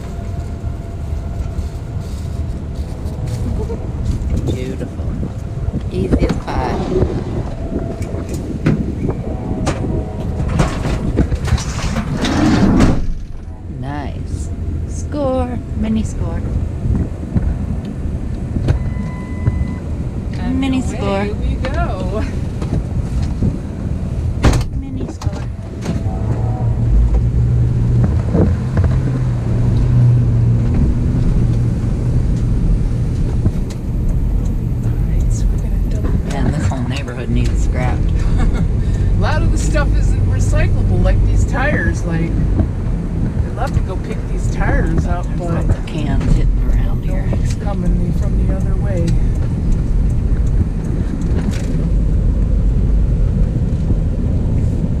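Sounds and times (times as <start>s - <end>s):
road rumble: 0.0s - 55.0s
vehicle engine hum: 0.0s - 55.0s.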